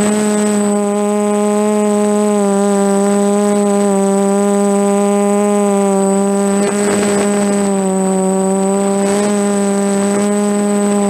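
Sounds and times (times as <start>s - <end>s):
quadcopter motors humming: 0.0s - 11.0s.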